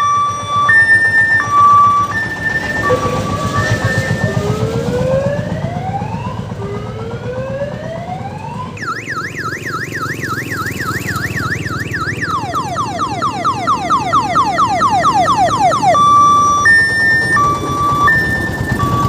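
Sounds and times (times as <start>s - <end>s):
diesel engine rumbling: 0.0s - 19.0s
electronic siren: 0.0s - 19.0s.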